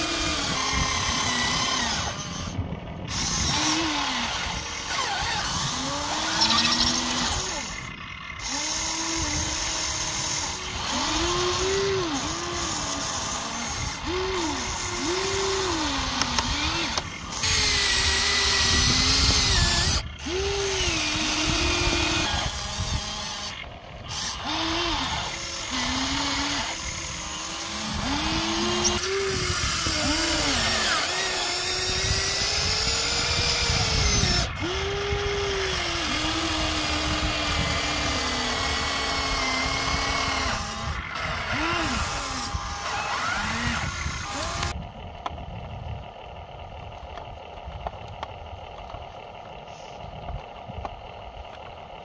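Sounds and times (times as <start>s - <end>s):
toy excavator electric motors whining: 0.0s - 52.0s.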